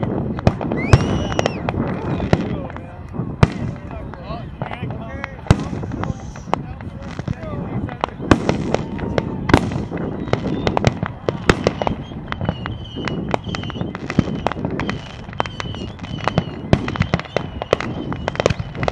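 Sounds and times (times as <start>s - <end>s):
fireworks popping and banging: 0.0s - 18.9s.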